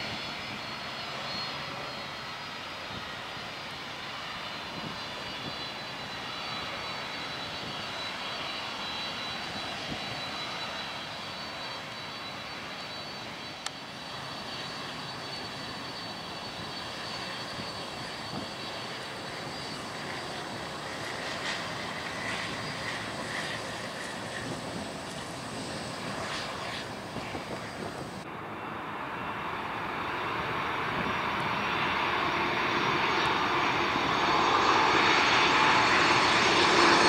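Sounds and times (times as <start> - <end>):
jet engine rumble and whine: 0.0 - 37.0.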